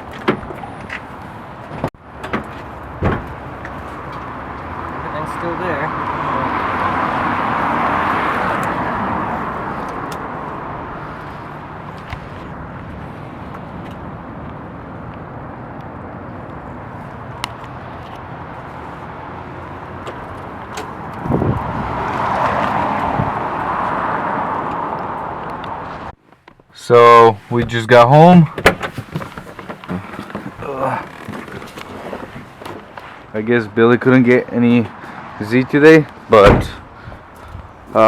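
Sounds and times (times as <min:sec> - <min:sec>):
car engine and tyre noise: 0:00.0 - 0:38.0.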